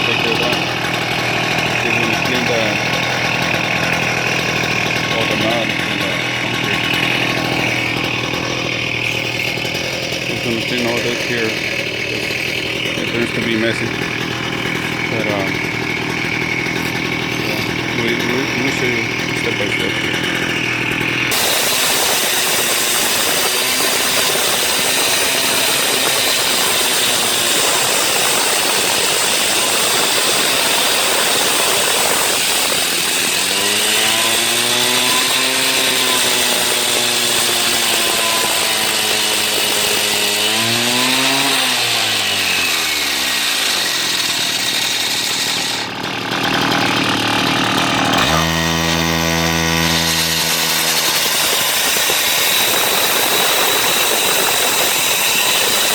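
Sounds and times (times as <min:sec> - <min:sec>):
power equipment grinding concrete: 0:00.0 - 0:55.9.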